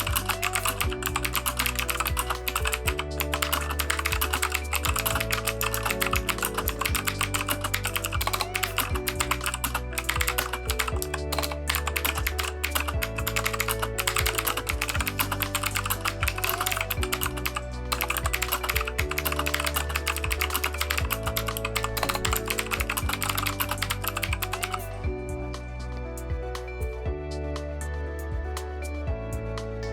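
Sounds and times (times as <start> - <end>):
fast typing on mechanical keyboard: 0.0 - 24.9
background music: 0.0 - 29.9.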